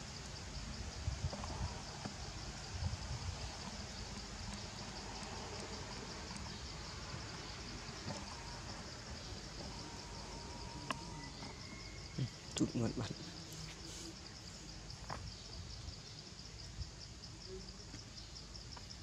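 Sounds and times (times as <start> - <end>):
high insect buzz: 0.0 - 19.0.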